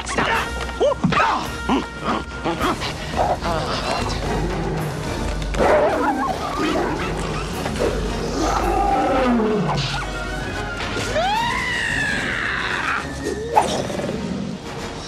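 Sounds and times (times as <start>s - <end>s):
film score music: 0.0s - 15.0s.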